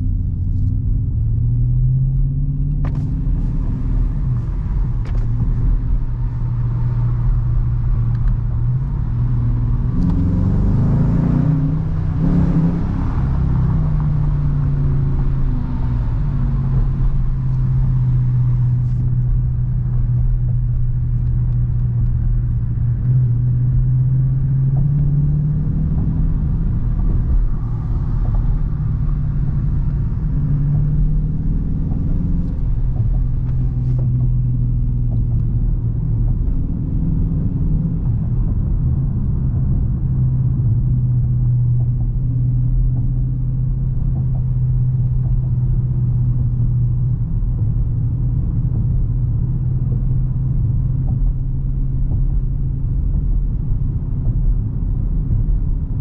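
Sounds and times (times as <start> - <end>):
car engine cruising: 0.0 - 56.0.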